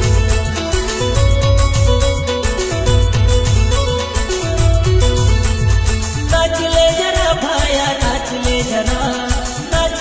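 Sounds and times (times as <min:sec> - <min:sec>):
held melody line: 0:00.0 - 0:10.0.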